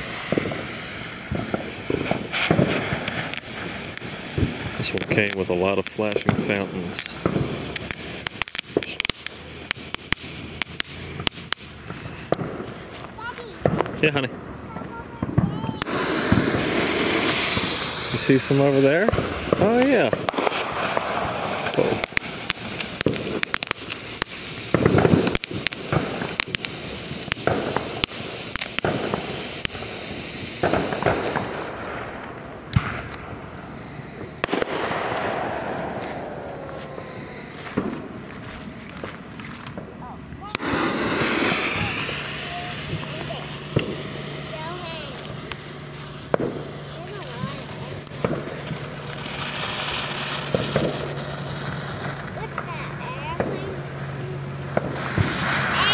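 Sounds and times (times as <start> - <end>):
firework pops and crackles: 0.0 - 55.9
firework sparks hissing: 0.0 - 55.9.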